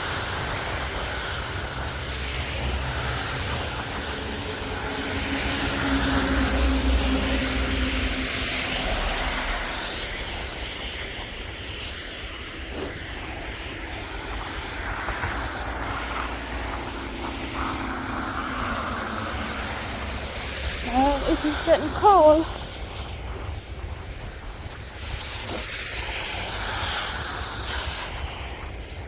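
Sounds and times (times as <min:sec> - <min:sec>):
passing engine rumble: 0:00.0 - 0:12.6, 0:13.2 - 0:24.5
wind noise: 0:00.0 - 0:29.0.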